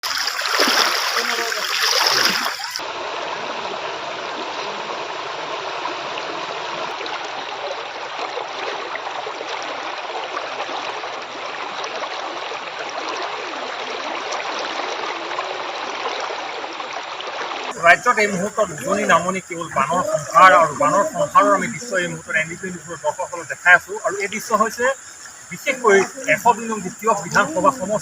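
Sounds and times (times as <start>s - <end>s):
rushing floodwater: 0.0s - 28.0s.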